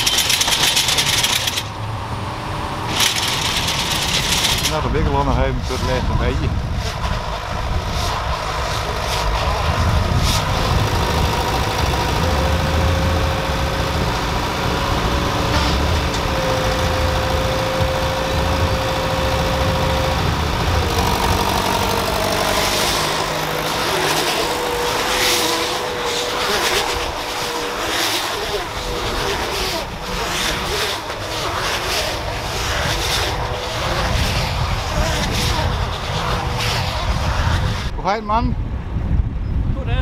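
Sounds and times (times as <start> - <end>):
tractor engine under load: 0.0 - 5.6, 6.5 - 34.2
baler machine whine: 0.0 - 37.5.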